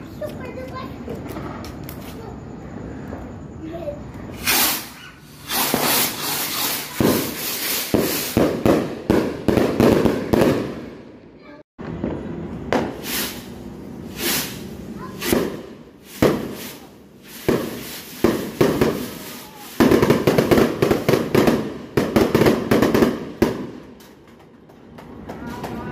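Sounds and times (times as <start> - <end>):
fireworks popping and banging: 0.0 - 2.4, 4.1 - 11.2, 11.8 - 25.9.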